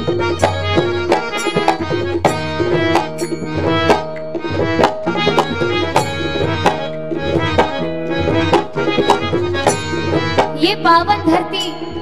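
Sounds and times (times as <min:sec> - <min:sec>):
sustained melodic accompaniment: 0:00.0 - 0:12.0
tabla strokes: 0:00.0 - 0:12.0.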